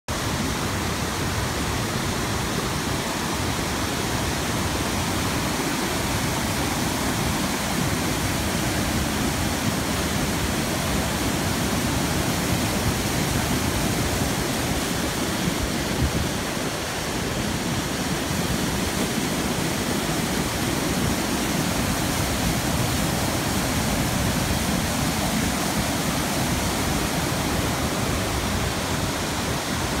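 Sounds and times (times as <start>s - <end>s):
stream rushing over rocks: 0.1s - 30.0s.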